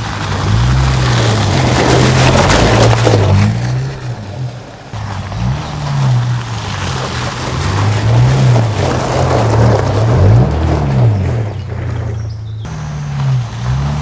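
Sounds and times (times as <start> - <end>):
truck engine revving: 0.0 - 14.0
tyres on gravel: 0.0 - 14.0.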